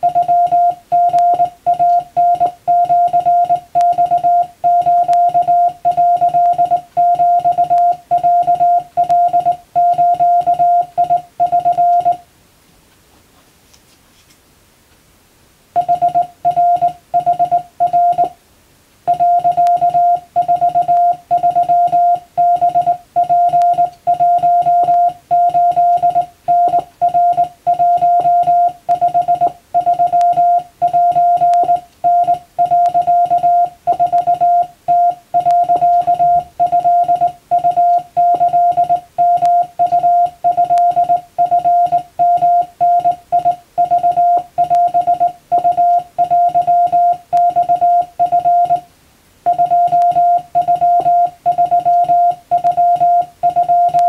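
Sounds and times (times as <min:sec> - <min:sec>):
morse code beeps: 0:00.0 - 0:12.2, 0:15.8 - 0:18.4, 0:19.1 - 0:48.9, 0:49.5 - 0:54.0.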